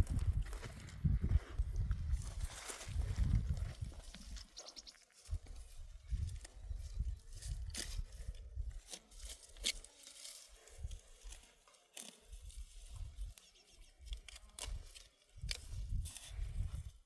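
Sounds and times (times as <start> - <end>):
dry vegetation rustling and snapping: 1.8 - 16.7.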